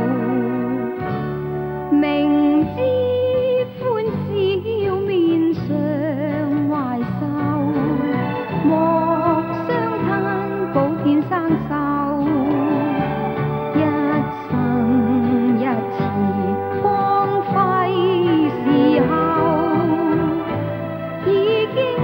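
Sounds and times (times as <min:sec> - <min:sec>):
instrumental backing: 0:00.0 - 0:22.0
person singing with vibrato: 0:01.9 - 0:22.0.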